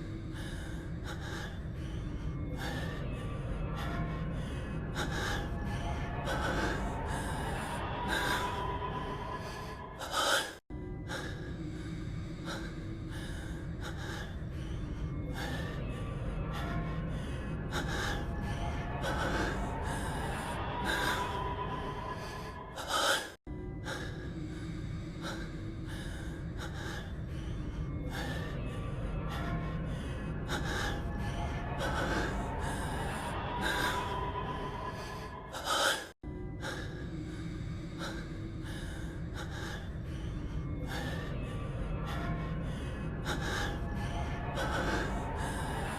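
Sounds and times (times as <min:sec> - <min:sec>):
low background music: 0:00.0 - 0:45.9.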